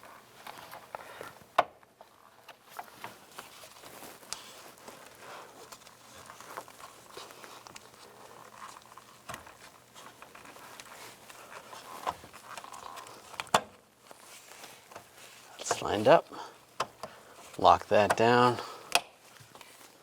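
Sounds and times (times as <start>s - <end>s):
wires rustling: 0.0s - 20.0s.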